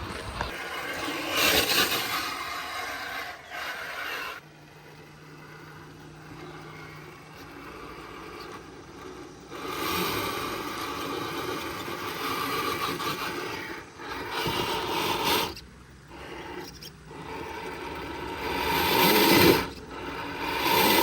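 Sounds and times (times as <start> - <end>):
scraping under truck: 0.0 - 21.0
toy truck electric motor whining: 0.0 - 21.0.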